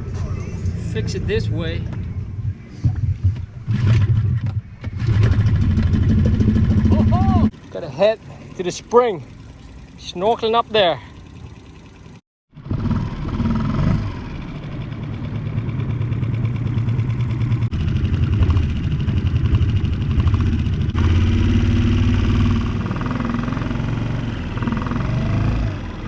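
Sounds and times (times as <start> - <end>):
outboard motor running: 3.7 - 26.0.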